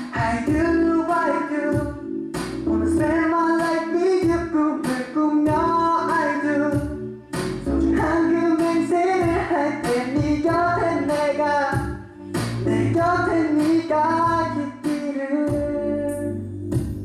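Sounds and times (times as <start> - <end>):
young man singing a pop ballad: 0.0 - 16.5.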